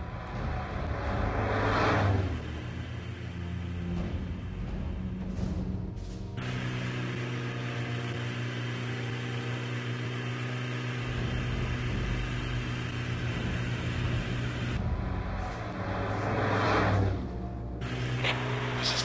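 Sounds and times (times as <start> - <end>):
car engine running steadily: 0.0 - 19.0.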